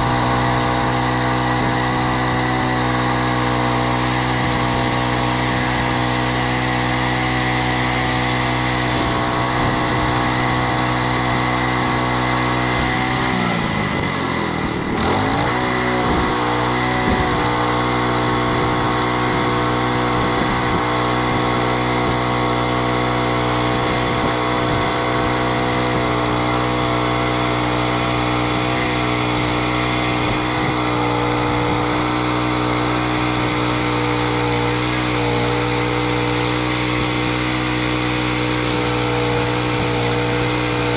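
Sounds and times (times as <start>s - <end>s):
band blade cutting log: 0.0s - 40.9s
petrol engine running hard: 0.0s - 40.9s.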